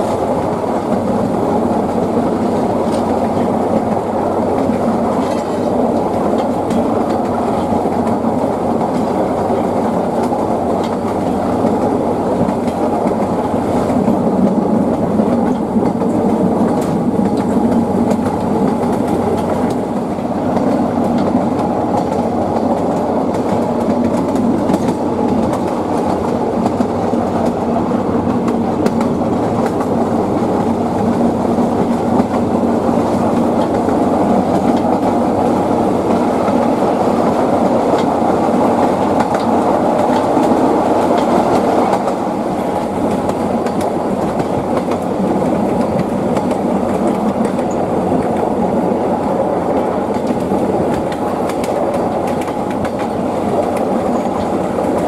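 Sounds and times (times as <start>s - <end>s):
train wheels rumbling on rails: 0.0s - 55.0s
wheels clicking over rail joints: 0.0s - 55.0s.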